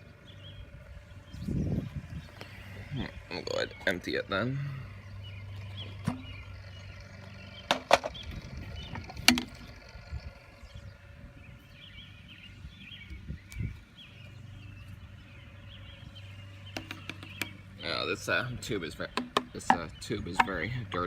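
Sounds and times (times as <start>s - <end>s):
birds chirping: 0.0s - 21.0s
steady low hum: 0.0s - 21.0s.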